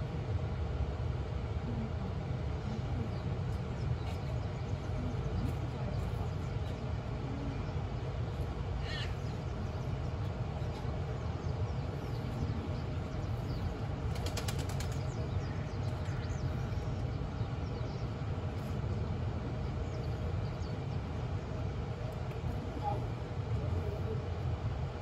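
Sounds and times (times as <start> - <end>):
low outdoor background rumble: 0.0 - 25.0.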